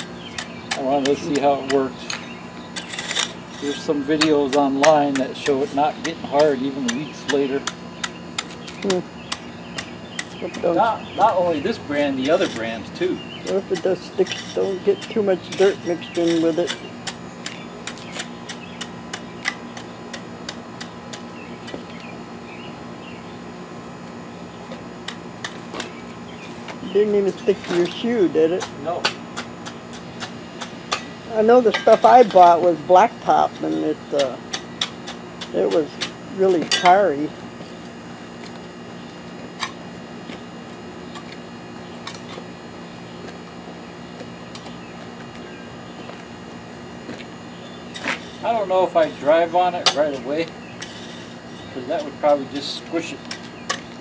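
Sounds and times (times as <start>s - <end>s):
hoe tapping asphalt: 0.0s - 23.4s, 24.5s - 46.4s, 47.0s - 54.0s
steady low hum: 0.0s - 54.0s.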